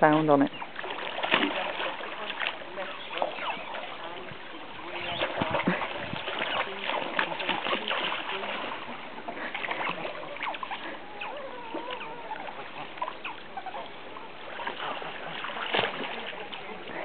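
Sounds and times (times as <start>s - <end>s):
otters splashing in water: 0.0s - 17.0s
rushing water: 0.0s - 17.0s.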